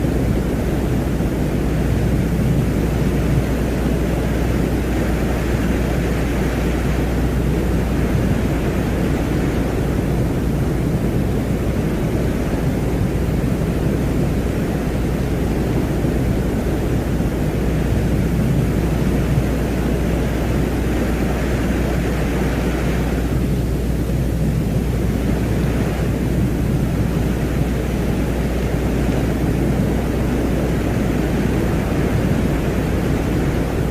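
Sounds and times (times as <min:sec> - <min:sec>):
steady rushing noise: 0:00.0 - 0:33.9.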